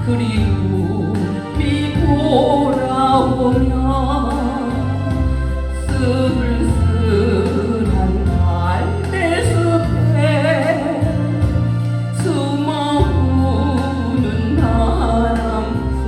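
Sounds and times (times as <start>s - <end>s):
backing track with bass line: 0.0s - 16.0s
person singing ballad with vibrato: 0.0s - 16.0s.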